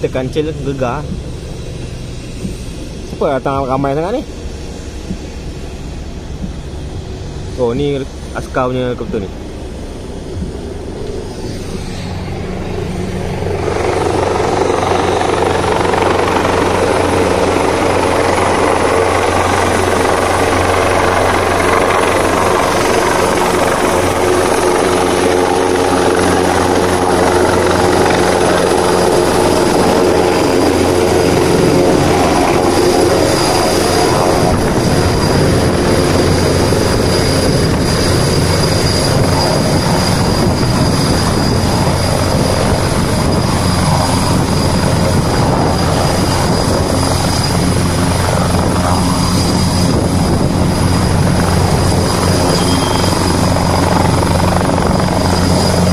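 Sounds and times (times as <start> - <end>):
helicopter rotor and turbine noise: 0.0 - 55.9
high steady whine: 0.0 - 55.9.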